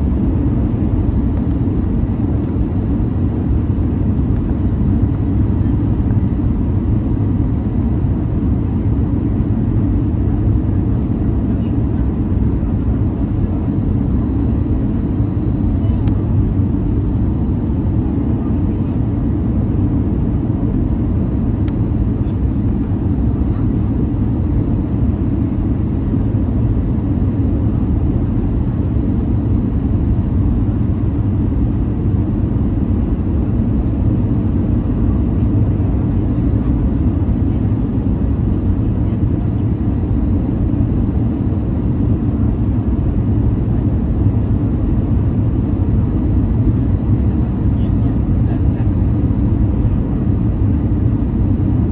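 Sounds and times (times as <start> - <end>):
jet engines rumbling: 0.0 - 51.9.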